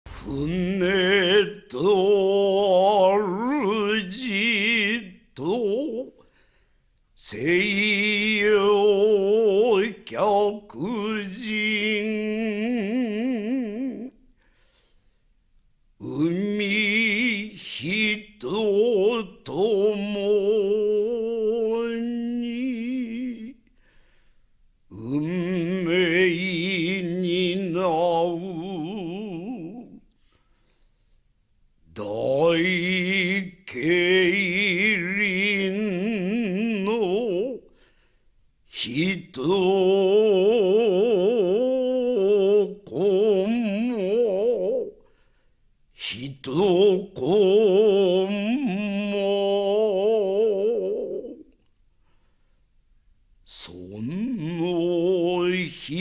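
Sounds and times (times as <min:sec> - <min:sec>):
person singing with vibrato: 0:00.1 - 0:06.4, 0:07.2 - 0:14.4, 0:16.0 - 0:23.7, 0:24.9 - 0:30.3, 0:31.9 - 0:37.9, 0:38.7 - 0:45.2, 0:45.9 - 0:51.7, 0:53.4 - 0:56.0.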